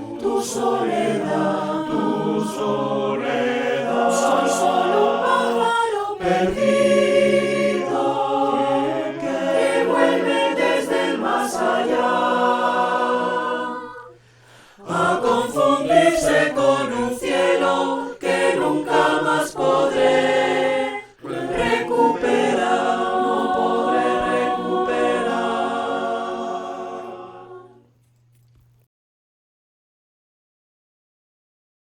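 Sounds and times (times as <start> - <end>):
a cappella choir singing: 0.0 - 27.9.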